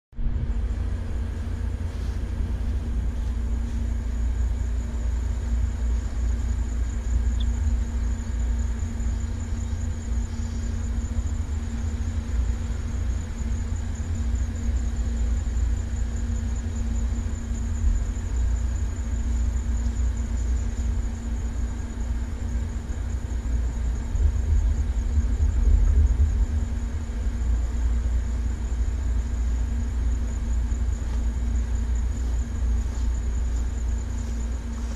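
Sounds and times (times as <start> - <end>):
aircraft engine idling: 0.2 - 34.9.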